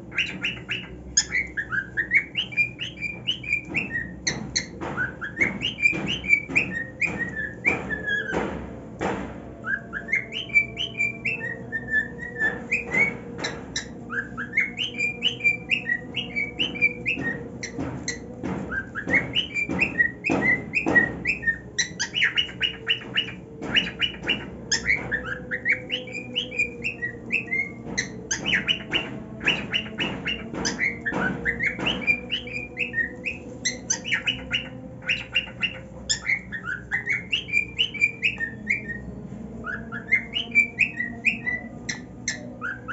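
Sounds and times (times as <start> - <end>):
cockatiel singing: 0.0 - 42.9.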